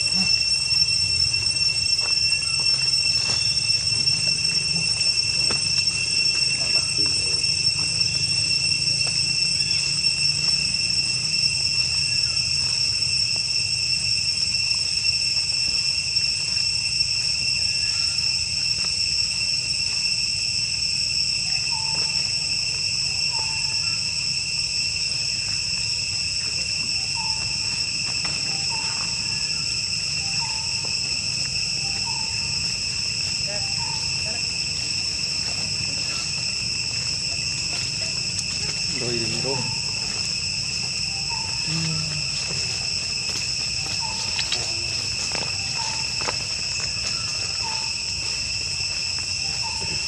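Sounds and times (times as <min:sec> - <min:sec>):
high-pitched insect drone: 0:00.0 - 0:50.0.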